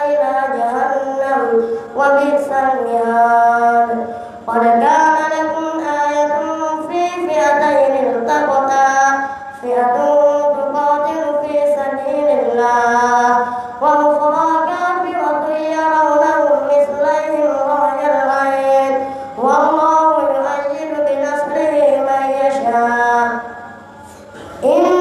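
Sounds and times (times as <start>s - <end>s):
boy chanting recitation: 0.0s - 25.0s.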